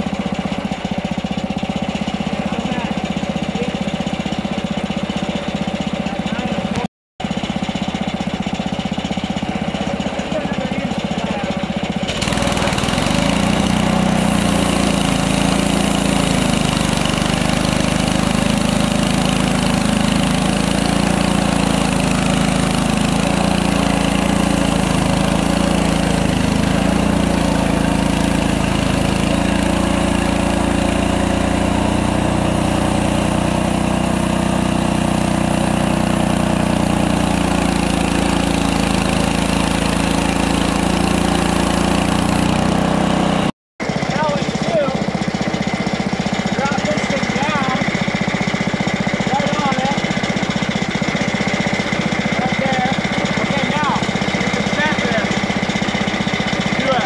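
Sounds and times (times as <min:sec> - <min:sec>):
band saw cutting log: 0:00.0 - 0:57.0
small gasoline engine running: 0:00.0 - 0:57.0.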